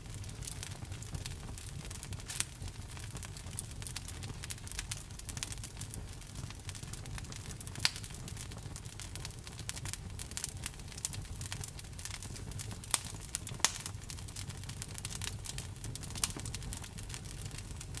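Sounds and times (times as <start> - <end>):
sharp snaps of fire: 0.0 - 18.0
wood fire crackling: 0.0 - 18.0.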